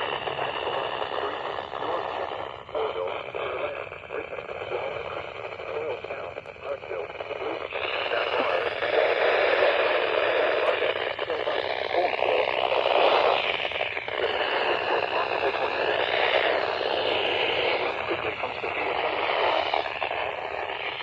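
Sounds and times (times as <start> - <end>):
radio static hiss: 0.0 - 21.0
wavering interference whistle: 0.0 - 21.0
broadcast voice: 1.0 - 20.9.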